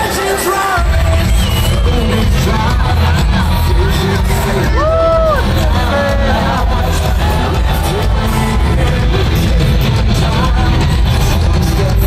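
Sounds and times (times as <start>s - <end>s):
crowd yelling: 0.0s - 12.0s
loud music over sound system: 0.0s - 12.0s.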